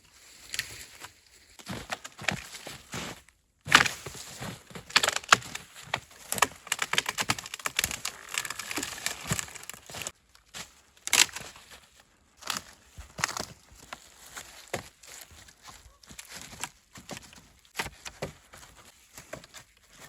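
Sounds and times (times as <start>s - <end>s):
dry wood cracking and snapping: 0.4s - 3.1s, 3.7s - 20.0s.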